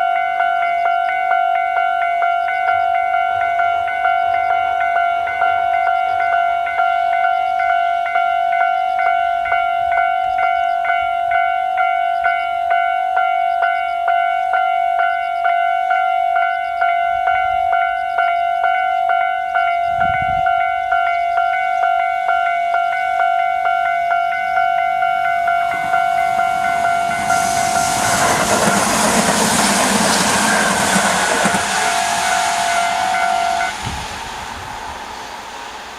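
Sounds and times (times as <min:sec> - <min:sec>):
level crossing warning bell: 0:00.0 - 0:35.9.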